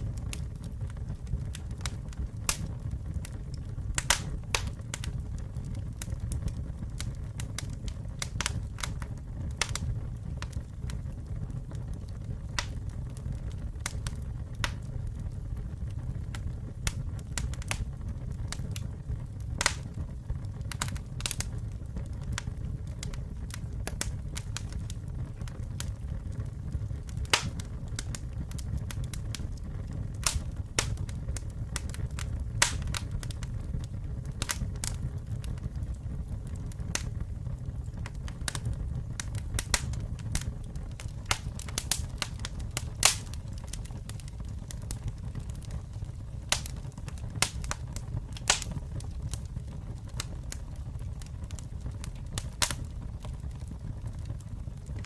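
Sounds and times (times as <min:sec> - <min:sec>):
campfire crackling and popping: 0:00.0 - 0:55.0
low rumble of flames: 0:00.0 - 0:55.0.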